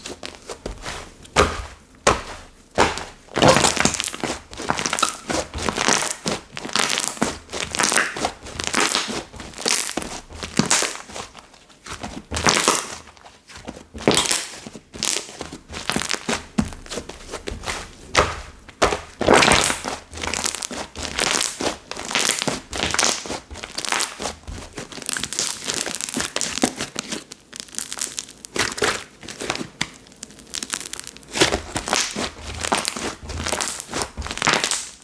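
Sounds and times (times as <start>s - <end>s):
slime crackling and squishing: 0.0s - 35.0s.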